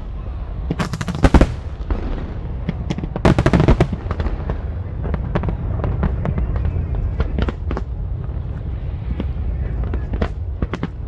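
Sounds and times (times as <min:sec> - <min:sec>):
low rumble: 0:00.0 - 0:11.0
fireworks bursting: 0:00.4 - 0:11.0.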